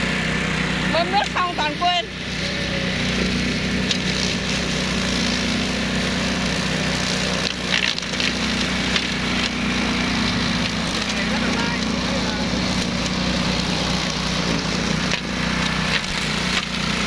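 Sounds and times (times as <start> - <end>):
flail mower engine running: 0.0 - 17.0.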